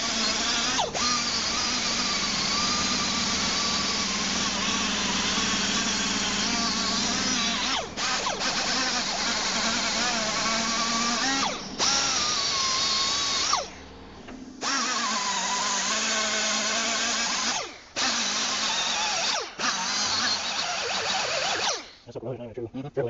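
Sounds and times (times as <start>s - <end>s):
power drill whining: 0.0s - 22.1s.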